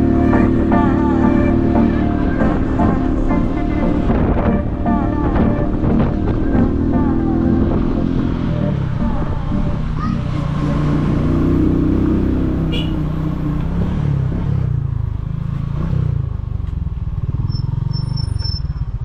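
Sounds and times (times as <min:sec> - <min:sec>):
motorcycle engine slowing: 0:00.0 - 0:15.4.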